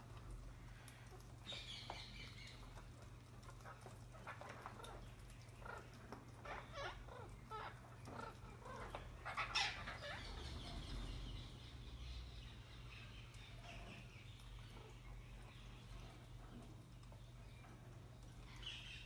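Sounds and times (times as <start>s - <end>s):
parakeets chirping and squawking: 0.7s - 16.7s.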